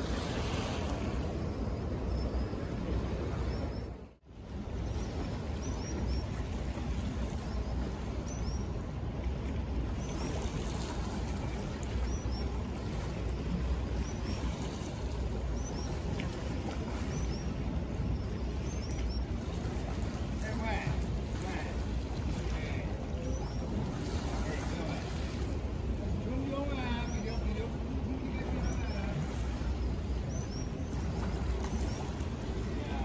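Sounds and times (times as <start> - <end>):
surf: 0.0 - 33.0.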